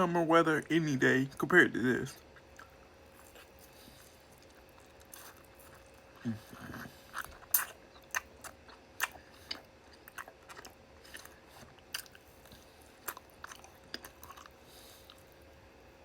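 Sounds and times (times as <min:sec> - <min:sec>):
chewing with wet mouth clicks: 0:02.2 - 0:15.3.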